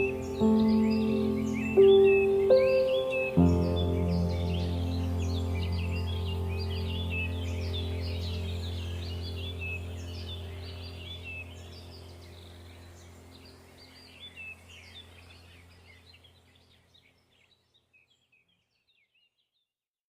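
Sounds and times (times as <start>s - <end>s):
low steady hum: 0.0s - 17.0s
small birds chirping: 0.0s - 19.7s.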